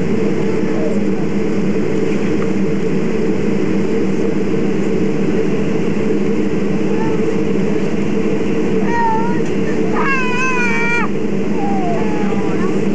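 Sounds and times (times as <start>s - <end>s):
airliner engines droning: 0.0s - 12.9s.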